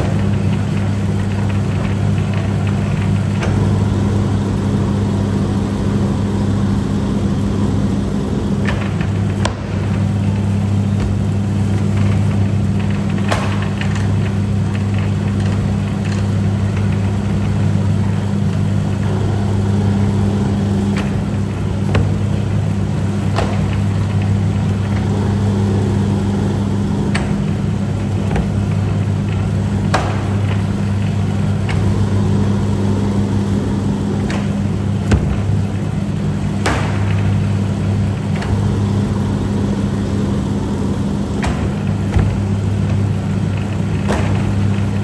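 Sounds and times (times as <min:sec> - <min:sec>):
noodle-cutting machine humming: 0:00.0 - 0:45.0.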